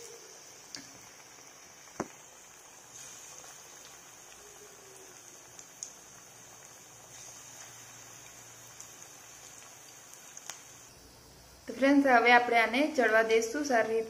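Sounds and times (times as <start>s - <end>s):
deep-frying sizzle with pops: 0.0s - 14.0s.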